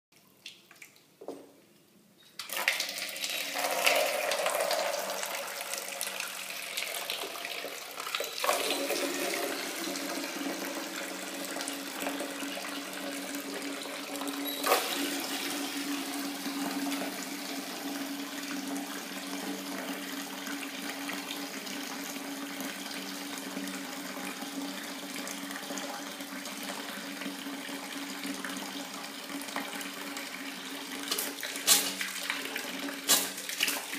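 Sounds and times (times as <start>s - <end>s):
tap water pouring into plastic bucket: 2.4s - 33.9s.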